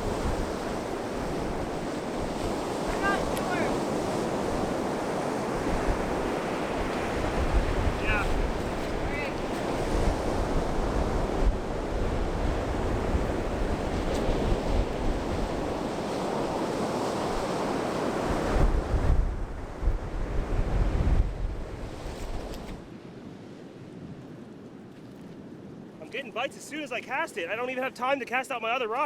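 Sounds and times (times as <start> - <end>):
wind buffeting microphone: 0.0 - 26.0
surf washing on beach: 0.0 - 29.0.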